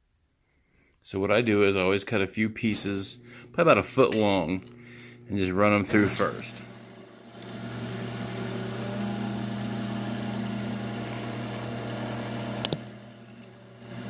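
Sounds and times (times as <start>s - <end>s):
wire stripping machine motor: 2.7s - 14.0s.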